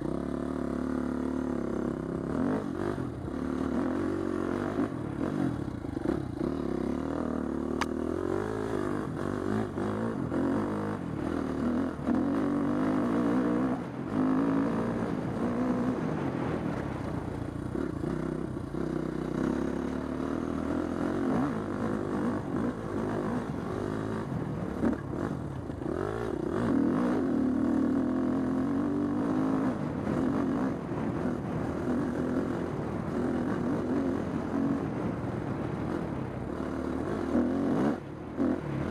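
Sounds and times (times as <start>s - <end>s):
dirt bike engine revving: 0.0s - 17.1s, 17.7s - 38.9s.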